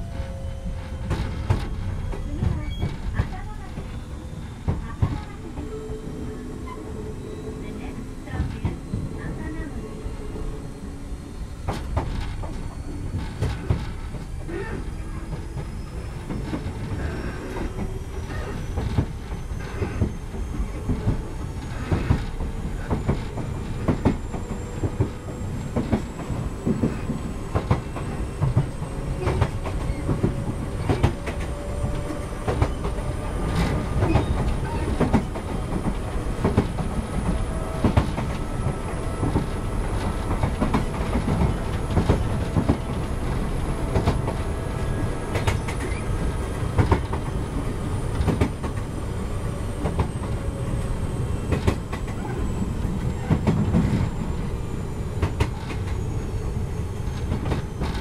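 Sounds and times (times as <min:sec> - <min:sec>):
electric train running whine: 0:00.0 - 0:58.0
rail joint clacks: 0:00.0 - 0:58.0.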